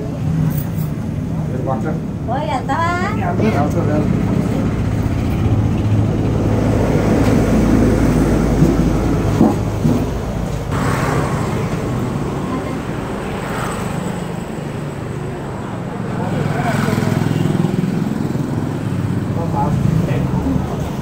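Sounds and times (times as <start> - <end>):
continuous rumbling noise: 0.0 - 21.0.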